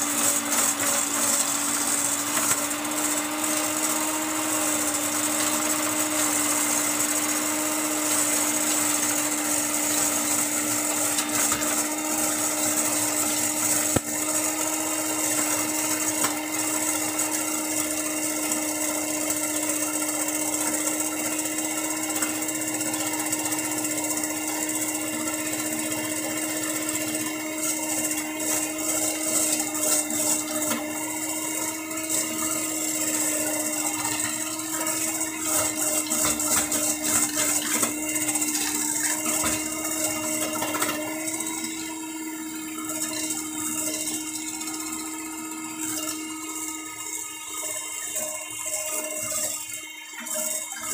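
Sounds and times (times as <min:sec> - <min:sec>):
electric hand mixer humming: 0:00.0 - 0:50.9.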